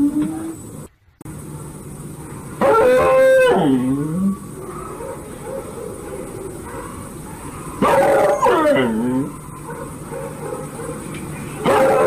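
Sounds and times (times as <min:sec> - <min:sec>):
dog crying: 0:02.3 - 0:12.0.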